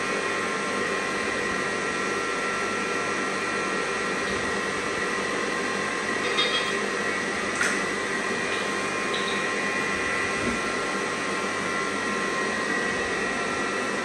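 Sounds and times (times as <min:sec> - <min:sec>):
stand mixer motor whine: 0:00.0 - 0:14.0.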